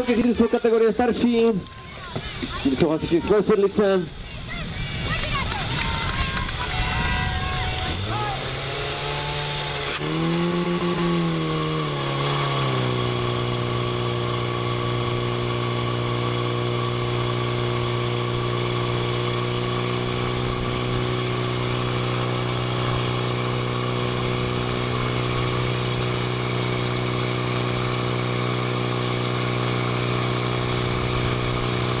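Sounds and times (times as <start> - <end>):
small petrol engine running: 0.0 - 32.0.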